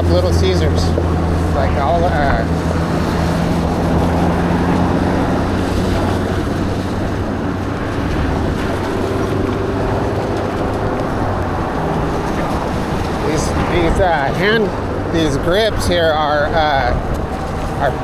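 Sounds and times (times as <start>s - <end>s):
constant low hum: 0.0s - 18.0s
wind noise on microphone: 0.0s - 18.0s.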